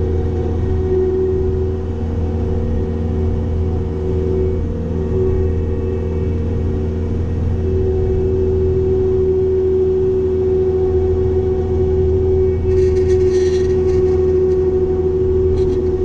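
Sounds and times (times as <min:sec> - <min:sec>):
skid steer engine drone: 0:00.0 - 0:16.0.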